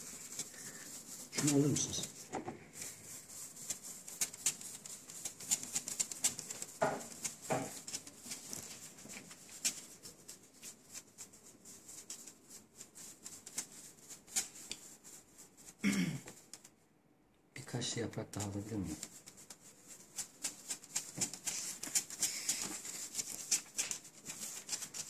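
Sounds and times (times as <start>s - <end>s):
scratchy crackle of sieve: 0.0s - 16.7s, 18.3s - 25.0s.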